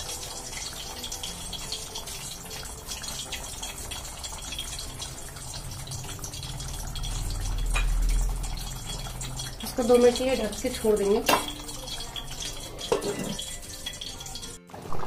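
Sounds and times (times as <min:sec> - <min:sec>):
curry bubbling in a pot: 0:00.0 - 0:14.6.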